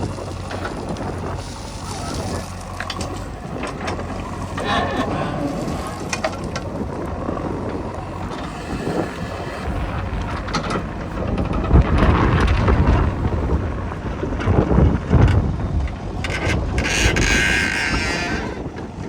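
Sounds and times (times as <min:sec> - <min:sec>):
heavy machinery engine rumble: 0:00.0 - 0:19.0
wind buffeting microphone: 0:00.0 - 0:19.0.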